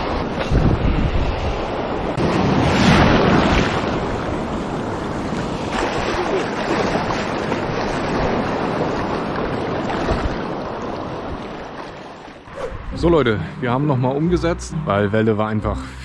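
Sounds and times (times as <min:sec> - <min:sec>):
waves breaking: 0:00.0 - 0:13.9
wind buffeting microphone: 0:00.0 - 0:14.2.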